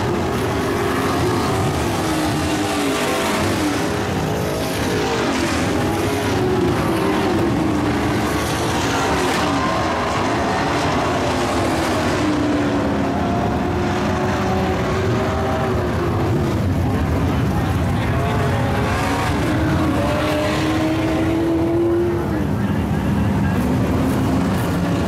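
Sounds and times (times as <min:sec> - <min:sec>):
race truck engines revving: 0:00.0 - 0:25.0.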